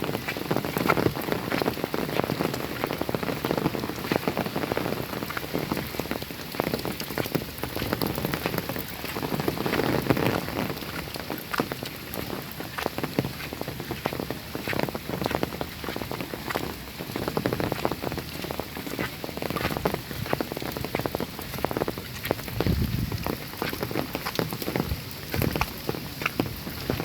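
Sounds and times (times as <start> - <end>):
rain hiss: 0.0 - 27.0
raindrops striking a surface: 0.0 - 27.0.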